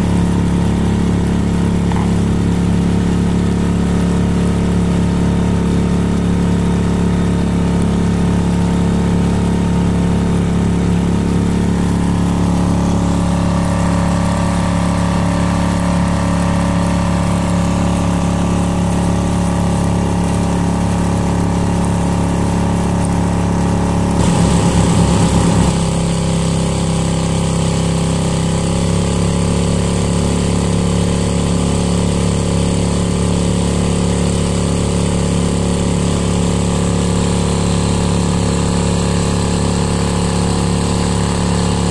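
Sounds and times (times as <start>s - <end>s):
outboard motor running: 0.0s - 41.9s.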